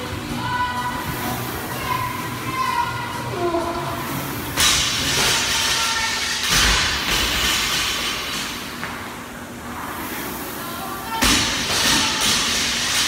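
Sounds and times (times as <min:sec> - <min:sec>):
rowing machine fan whooshing: 0:00.0 - 0:13.0.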